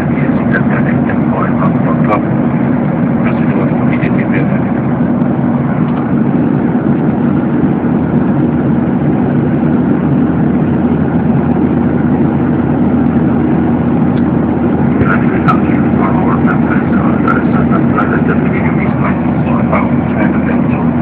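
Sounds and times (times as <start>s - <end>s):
jet engine cabin roar: 0.0s - 21.0s
low steady hum: 0.0s - 21.0s.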